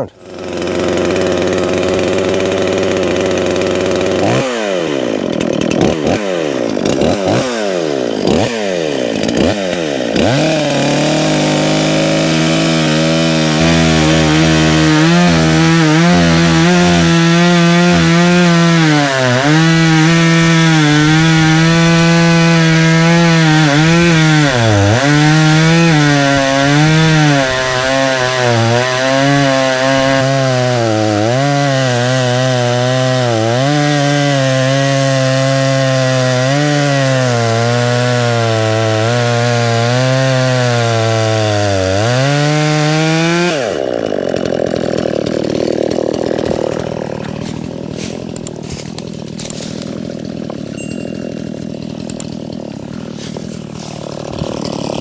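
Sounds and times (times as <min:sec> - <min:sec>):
chainsaw cutting wood: 0:00.0 - 0:55.0
chainsaw idling and revving: 0:00.0 - 0:55.0.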